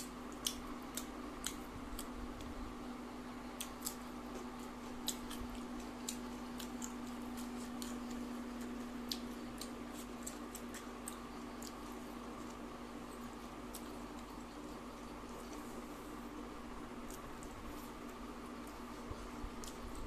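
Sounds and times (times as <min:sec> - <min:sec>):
crisp food crackling while chewed: 0:00.0 - 0:20.0
steady low hum: 0:00.0 - 0:20.0.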